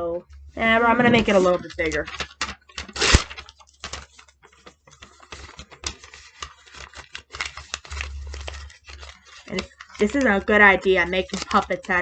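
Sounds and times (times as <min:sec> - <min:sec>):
paper rustling and crinkling: 0:00.8 - 0:12.0.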